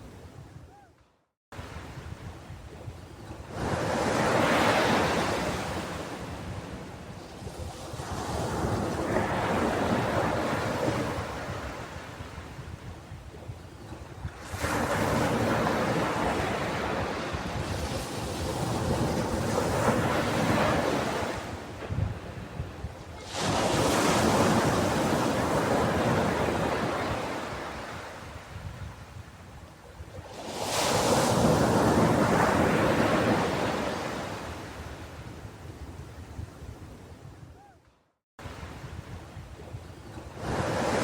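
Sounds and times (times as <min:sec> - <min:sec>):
ocean waves breaking on beach: 0:01.6 - 0:37.4, 0:38.4 - 0:41.0.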